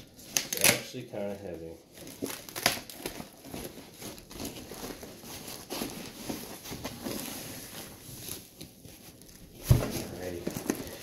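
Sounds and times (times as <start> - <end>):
foam plastic bag rustling: 0.0 - 11.0.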